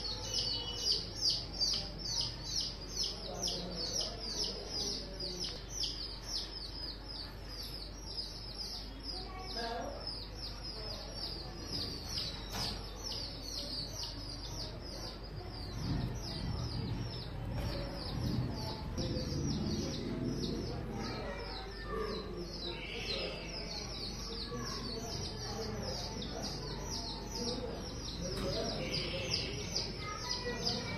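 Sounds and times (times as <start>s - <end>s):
lovebirds chirping: 0.0s - 30.9s.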